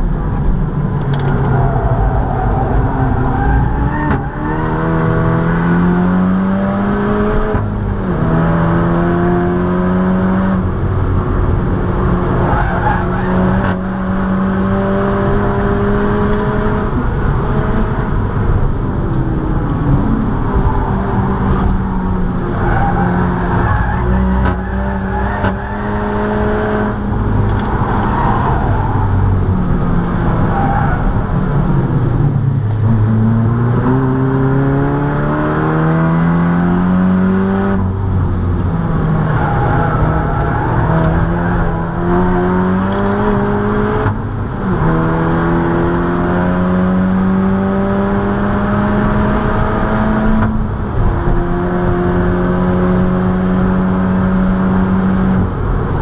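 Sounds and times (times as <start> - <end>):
car engine under hard driving: 0.0 - 56.0
road and wind noise: 0.0 - 56.0.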